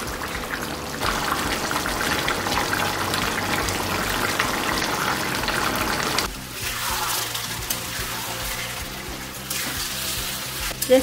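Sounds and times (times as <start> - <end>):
meat sizzling and bubbling: 0.0 - 11.0.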